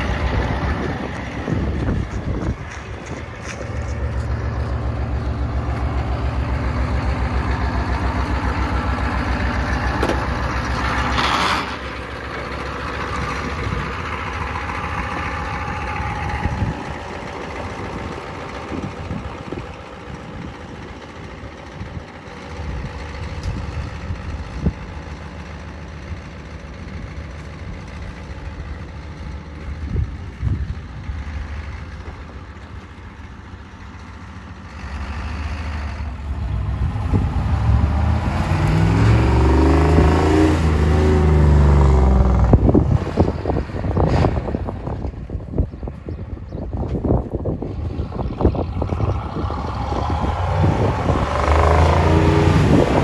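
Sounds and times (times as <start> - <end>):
diesel pickup engine running: 0.0 - 53.0
truck driving off: 0.0 - 53.0.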